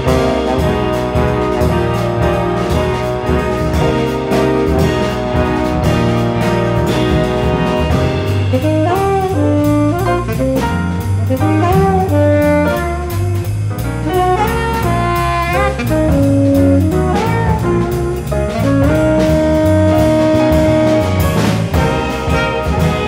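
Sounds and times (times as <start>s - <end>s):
bass: 0.0s - 23.0s
drum kit cymbals: 0.0s - 23.0s
tenor saxophone jazz solo: 0.0s - 23.0s.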